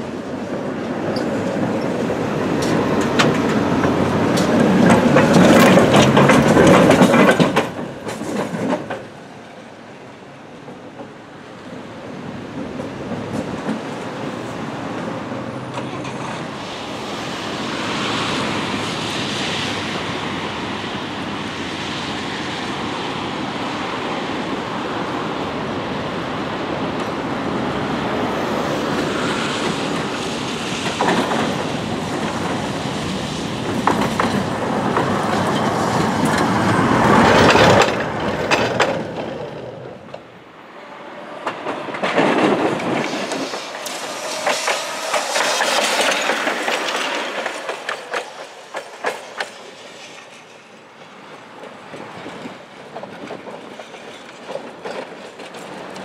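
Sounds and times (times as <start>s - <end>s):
tram rumbling over rail joints: 0.0s - 56.0s.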